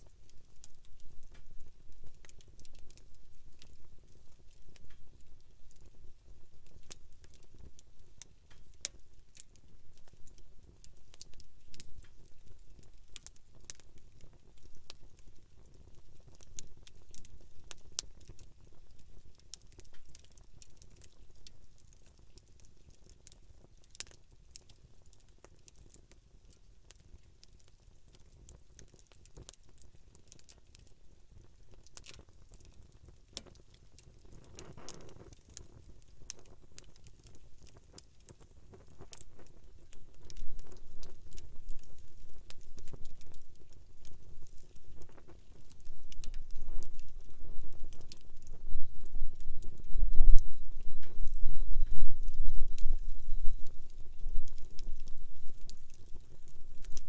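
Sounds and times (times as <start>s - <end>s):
campfire crackling and popping: 0.0s - 57.0s
low fire rumble: 0.0s - 57.0s.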